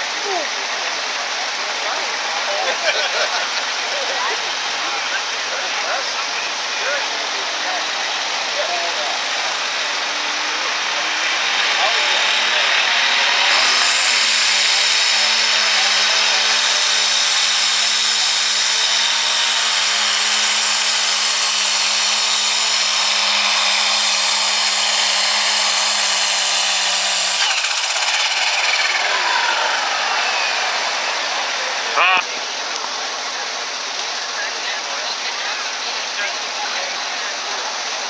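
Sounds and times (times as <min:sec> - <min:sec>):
tractor engine high-pitched whine: 0:00.0 - 0:38.0.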